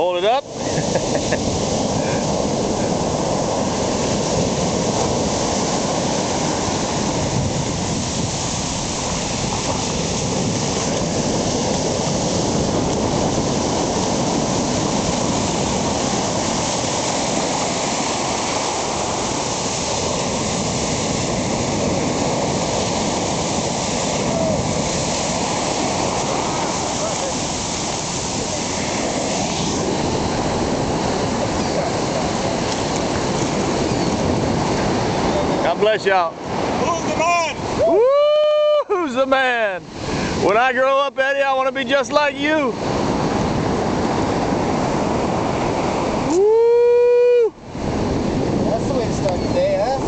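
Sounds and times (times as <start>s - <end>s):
ocean surf breaking: 0.0s - 50.0s.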